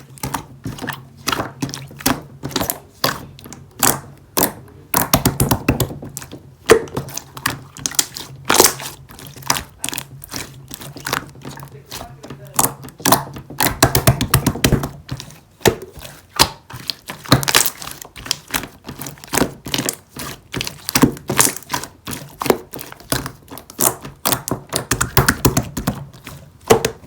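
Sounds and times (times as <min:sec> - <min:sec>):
slime squishing with clicks and pops: 0:00.0 - 0:27.0.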